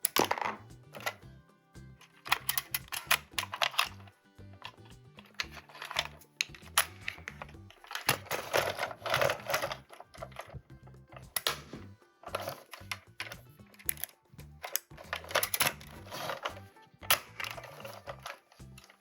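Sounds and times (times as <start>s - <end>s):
plastic parts clicking and tapping: 0.0s - 1.2s, 2.0s - 19.0s
soft background music: 0.0s - 19.0s.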